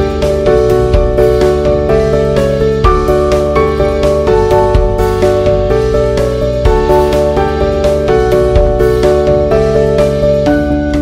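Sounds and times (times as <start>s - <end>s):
background music held chords: 0.0s - 11.0s.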